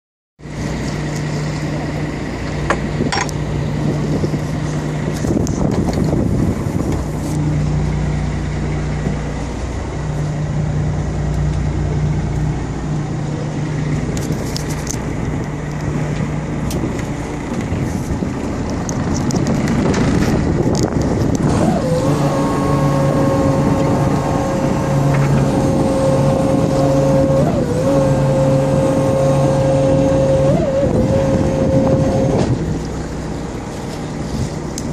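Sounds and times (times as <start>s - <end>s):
boat engine running: 0.4s - 34.9s
steady high whine: 0.4s - 34.9s
wind: 0.4s - 34.9s.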